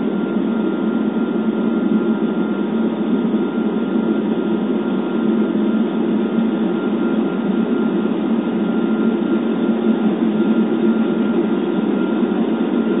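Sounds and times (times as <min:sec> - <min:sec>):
jet engines and rushing air drone: 0:00.0 - 0:13.0
thin steady whine: 0:00.0 - 0:13.0.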